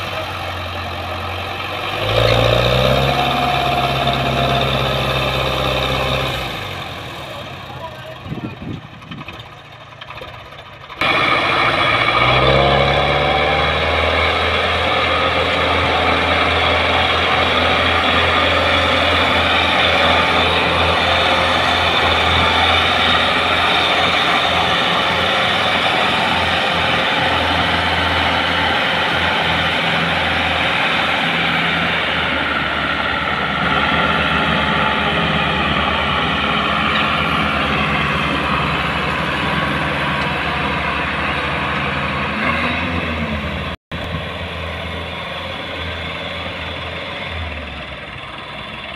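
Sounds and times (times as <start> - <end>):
tractor diesel engine revving: 0.0 - 48.9.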